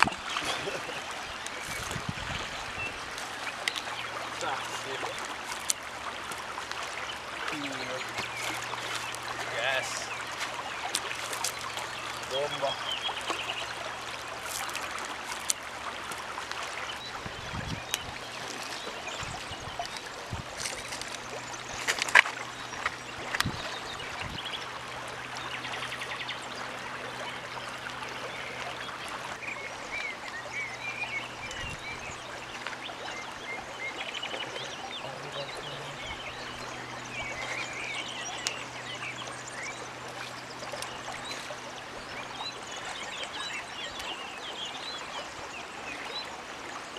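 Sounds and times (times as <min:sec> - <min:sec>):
river flowing over gravel: 0:00.0 - 0:46.9.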